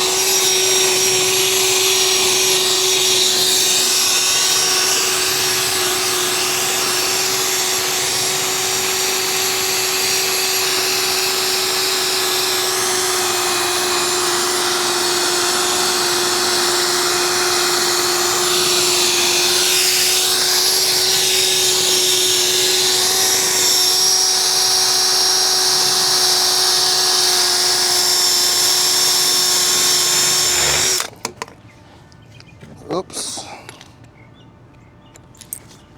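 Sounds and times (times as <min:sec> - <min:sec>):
drill motor whine: 0:00.0 - 0:31.1.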